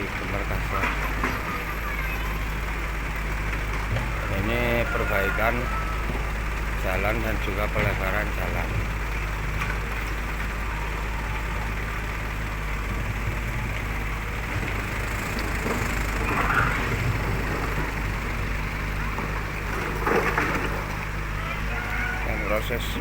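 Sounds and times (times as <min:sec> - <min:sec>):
motor engine humming: 0:00.0 - 0:23.0.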